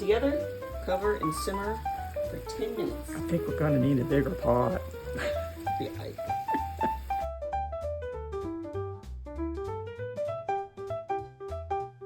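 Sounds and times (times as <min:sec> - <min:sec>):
plucky piano melody over bass: 0:00.0 - 0:12.0.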